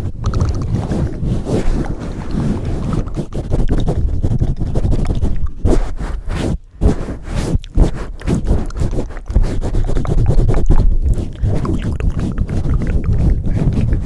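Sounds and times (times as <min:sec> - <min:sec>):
scratching against microphone: 0:00.0 - 0:14.0.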